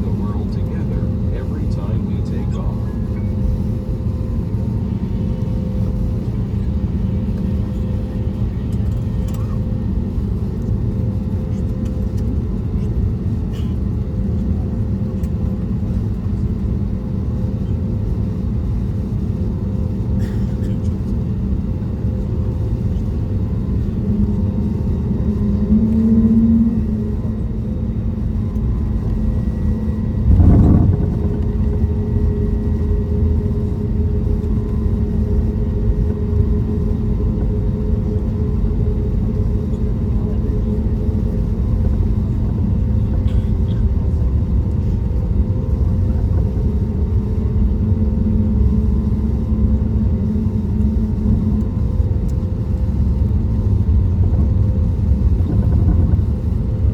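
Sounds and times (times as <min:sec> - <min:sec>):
airplane cabin engine hum: 0:00.0 - 0:56.9.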